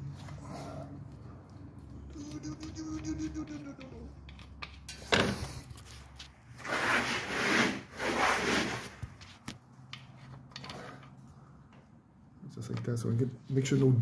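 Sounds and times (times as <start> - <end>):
rubbing and scraping on a surface: 0.0 - 11.3.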